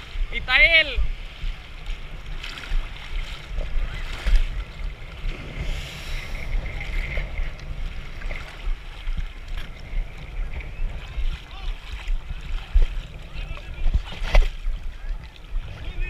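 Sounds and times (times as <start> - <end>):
seawater sloshing and splashing: 0.0 - 16.0.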